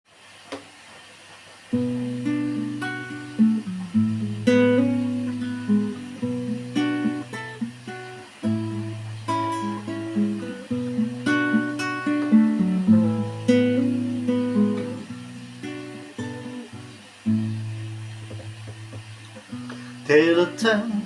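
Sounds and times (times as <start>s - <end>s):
acoustic guitar strumming: 1.7s - 21.0s.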